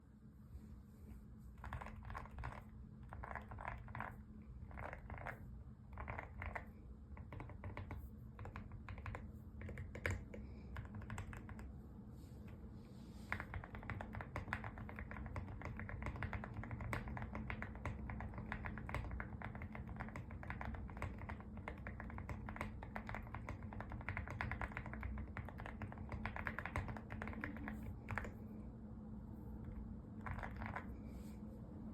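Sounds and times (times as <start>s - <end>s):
typing on mechanical keyboard: 1.6s - 11.7s, 13.3s - 28.4s, 29.7s - 31.0s.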